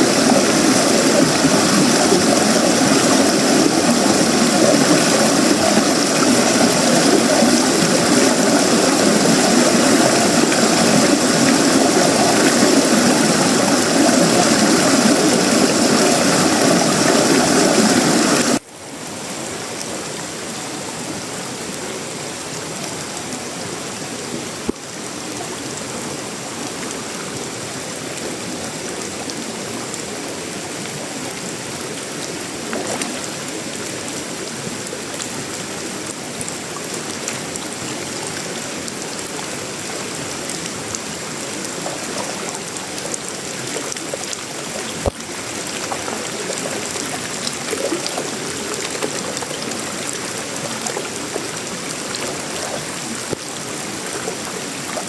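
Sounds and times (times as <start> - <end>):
heavy rain pouring: 0.0 - 55.0
light rain: 0.0 - 55.0.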